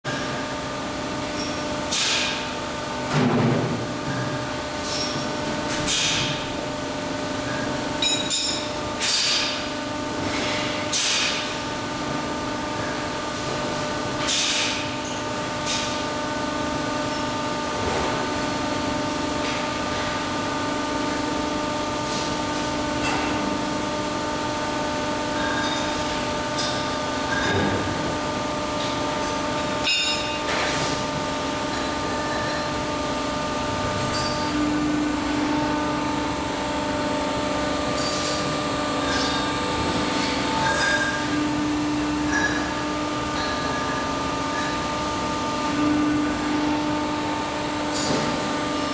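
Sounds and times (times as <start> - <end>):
machinery hum: 2.5 - 48.9.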